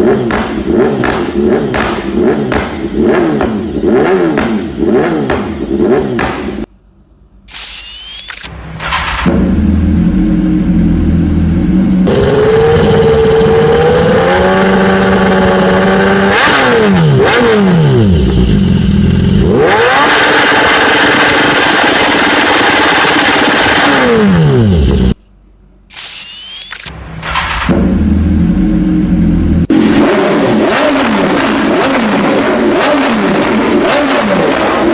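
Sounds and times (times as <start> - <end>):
motorcycle engine idling and revving: 0.0 - 6.7, 7.8 - 25.2, 26.5 - 34.9.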